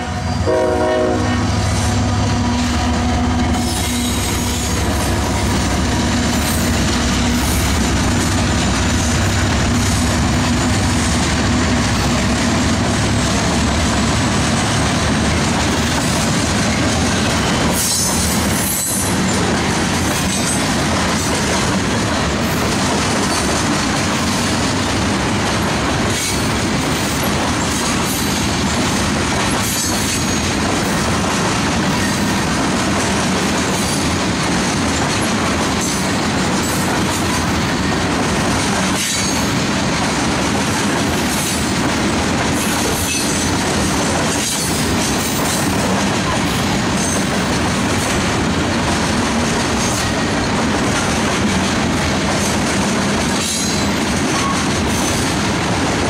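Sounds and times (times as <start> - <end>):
freight train rumbling past: 0.0 - 56.0
wheels clacking on rail joints: 1.4 - 56.0.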